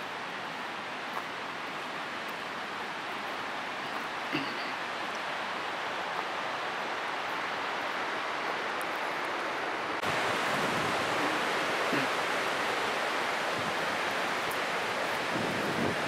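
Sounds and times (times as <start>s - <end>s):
steady outdoor rushing noise: 0.0s - 16.0s.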